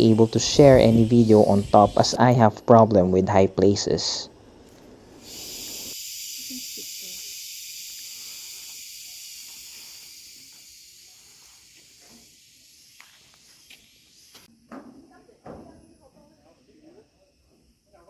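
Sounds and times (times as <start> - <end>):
cicadas buzzing: 0.0 - 14.7.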